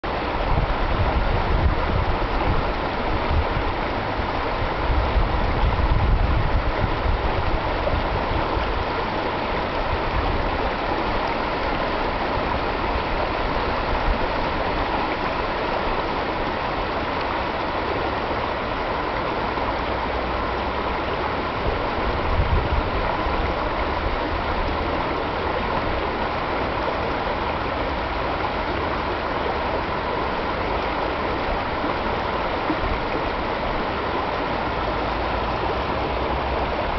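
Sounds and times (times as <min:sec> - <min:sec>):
low water rumbles: 0:00.0 - 0:36.9
stream rushing over rocks: 0:00.0 - 0:36.9.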